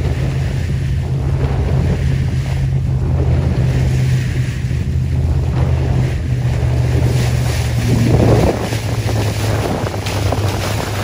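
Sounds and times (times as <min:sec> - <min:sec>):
boat motor humming: 0:00.0 - 0:11.0
wind buffeting microphone: 0:00.0 - 0:11.0.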